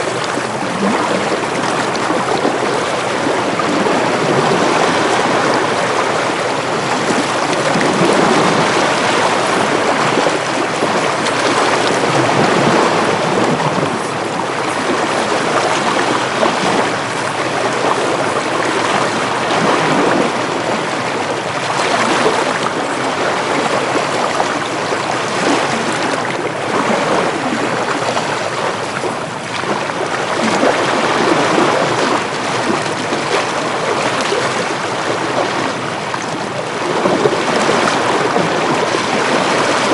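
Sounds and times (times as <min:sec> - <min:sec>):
ocean waves washing in: 0:00.0 - 0:39.9
wind: 0:00.0 - 0:39.9.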